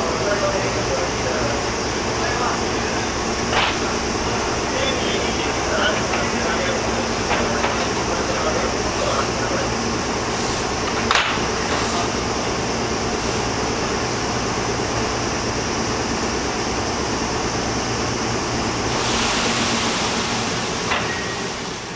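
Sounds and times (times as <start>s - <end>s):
train equipment hum and whir: 0.0s - 21.9s
bright hiss: 1.5s - 21.9s.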